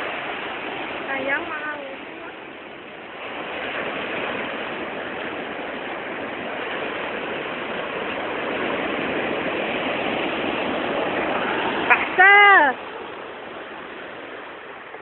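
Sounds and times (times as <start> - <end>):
sea waves breaking on beach: 0.0 - 15.0.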